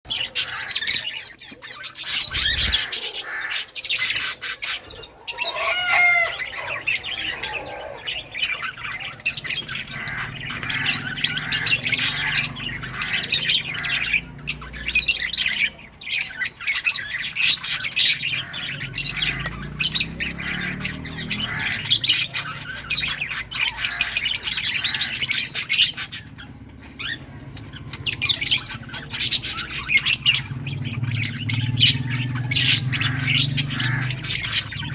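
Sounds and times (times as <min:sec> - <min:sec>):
lovebirds chirping and squawking: 0:00.1 - 0:34.9.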